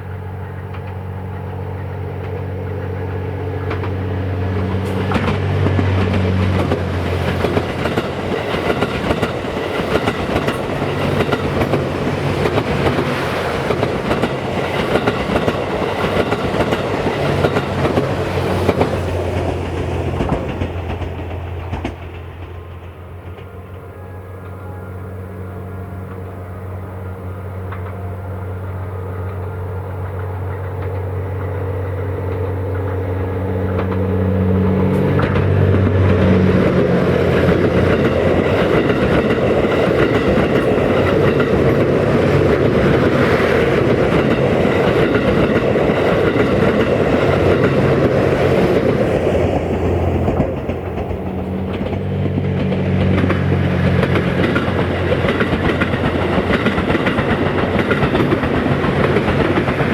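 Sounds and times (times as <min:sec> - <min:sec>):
low diesel engine drone: 0:00.0 - 0:59.9
train wheels rushing on rail: 0:00.0 - 0:59.9.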